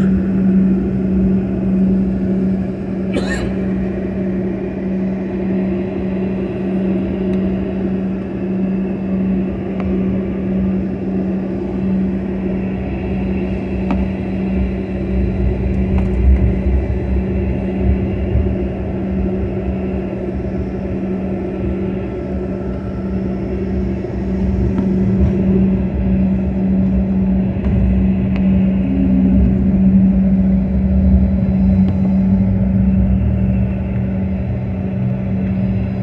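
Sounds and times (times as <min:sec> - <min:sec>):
jet engines humming: 0:00.0 - 0:36.0.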